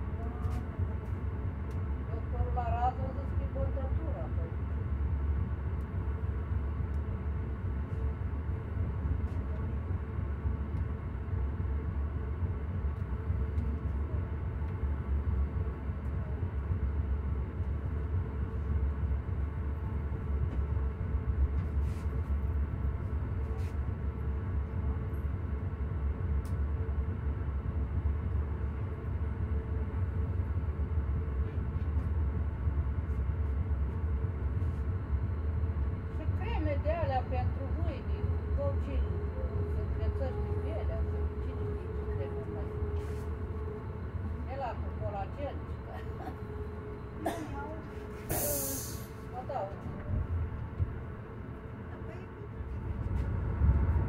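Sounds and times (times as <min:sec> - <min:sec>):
steady hum: 0:00.0 - 0:54.0
train rumble from inside coach: 0:00.0 - 0:54.0.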